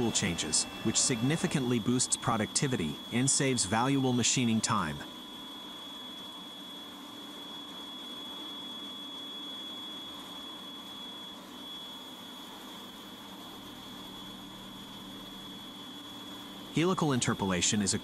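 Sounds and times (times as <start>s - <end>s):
milling machine high whine: 0.0s - 18.0s.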